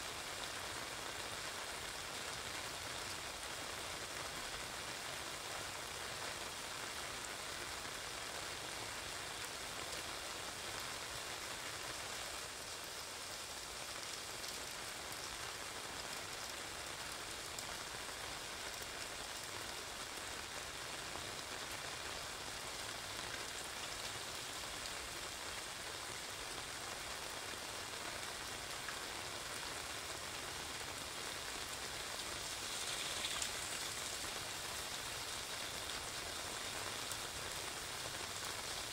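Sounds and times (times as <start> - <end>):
rain on wet pavement: 0.0 - 38.9
rain pattering on an umbrella: 0.0 - 38.9.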